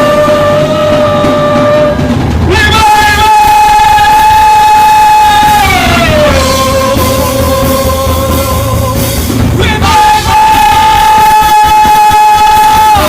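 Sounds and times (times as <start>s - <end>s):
low rumbling accompaniment: 0.0s - 13.0s.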